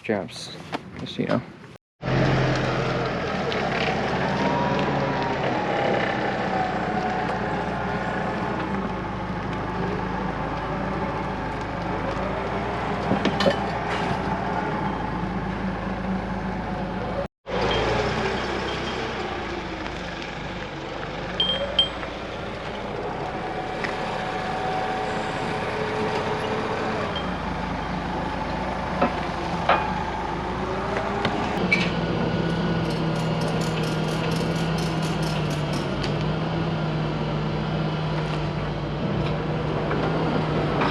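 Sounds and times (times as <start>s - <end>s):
engine hum with rapid ticking: 2.0s - 40.9s
truck and machinery engines: 2.0s - 40.9s.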